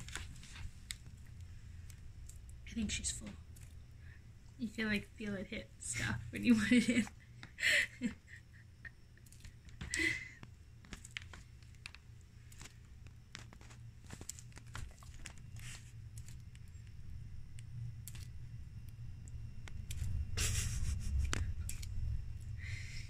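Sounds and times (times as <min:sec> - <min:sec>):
iguana chewing: 0:00.0 - 0:04.6, 0:08.2 - 0:23.0.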